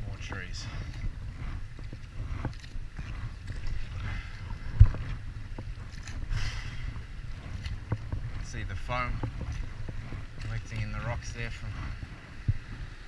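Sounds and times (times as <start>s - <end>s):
low wind rumble on microphone: 0.0s - 13.0s
paddle strokes in water: 0.0s - 13.0s
river water moving: 0.0s - 13.0s.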